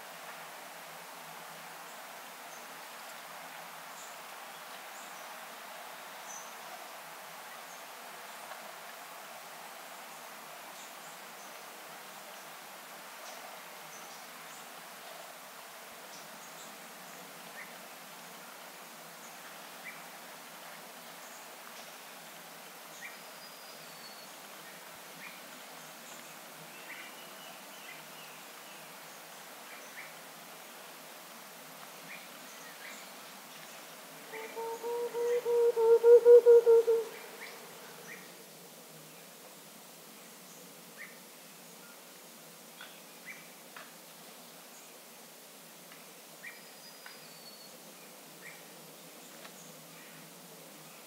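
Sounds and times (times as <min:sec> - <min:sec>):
steady hiss: 0:00.0 - 0:51.0.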